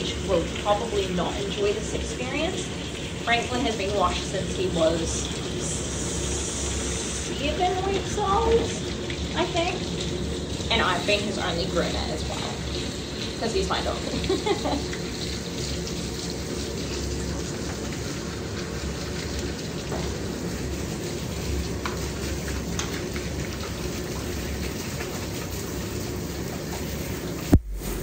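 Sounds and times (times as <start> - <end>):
shower sprayer water hissing: 0.0 - 28.0.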